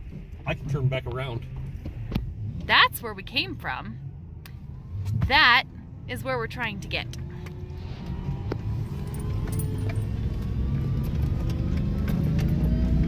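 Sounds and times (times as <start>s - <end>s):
truck engine labouring: 0.0s - 13.0s.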